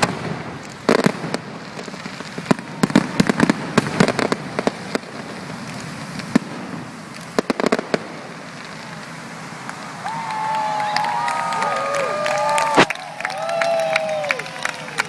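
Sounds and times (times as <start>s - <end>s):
fireworks bangs and pops: 0.0s - 14.8s.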